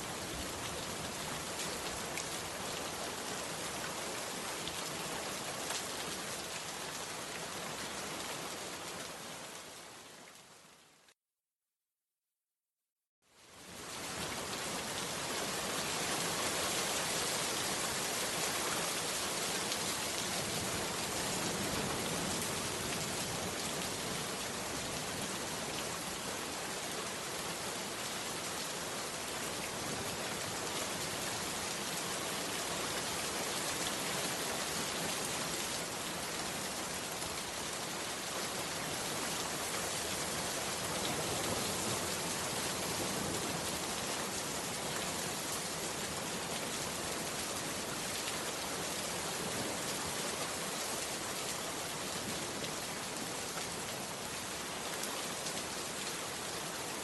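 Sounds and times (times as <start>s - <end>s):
heavy rain downpour: 0.0s - 11.2s, 13.3s - 57.0s.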